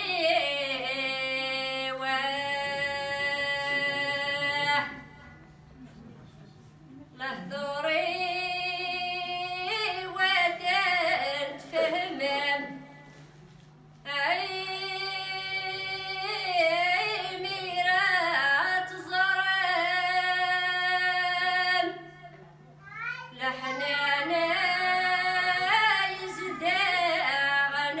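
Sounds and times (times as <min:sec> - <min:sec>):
group of women singing: 0:00.0 - 0:05.1, 0:07.2 - 0:12.9, 0:14.1 - 0:22.1, 0:23.5 - 0:28.0
steady low hum: 0:00.0 - 0:28.0.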